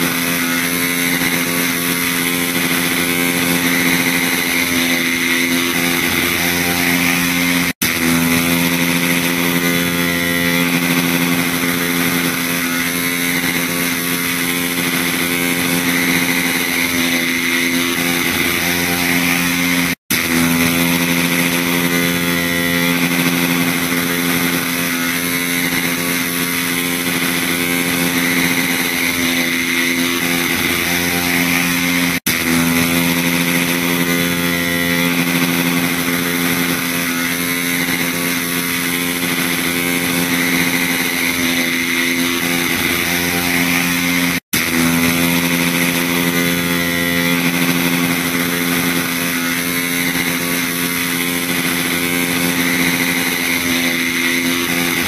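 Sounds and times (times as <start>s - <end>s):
electric hair clipper buzzing: 0.0s - 55.0s.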